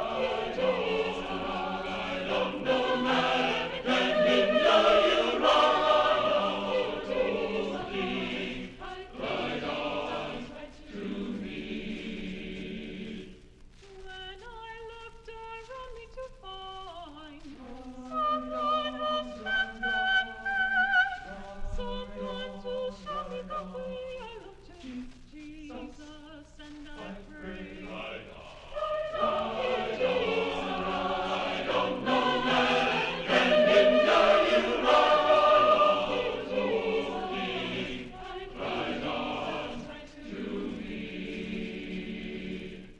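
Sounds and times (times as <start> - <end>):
choir singing: 0.0 - 13.4, 17.1 - 42.9.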